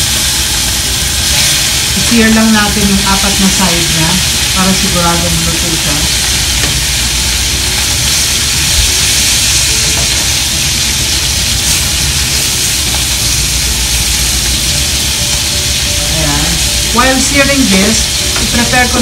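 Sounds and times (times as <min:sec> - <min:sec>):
fish sizzling in a frying pan: 0:00.0 - 0:19.0.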